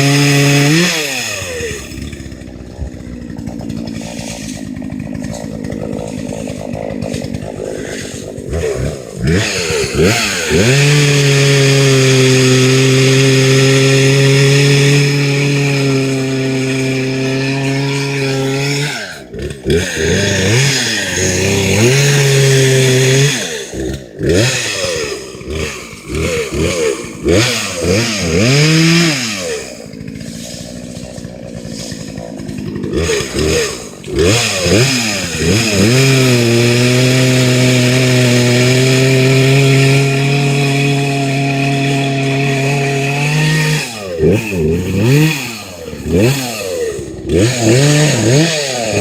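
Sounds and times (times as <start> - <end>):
chainsaw engine revving: 0.0 - 49.0.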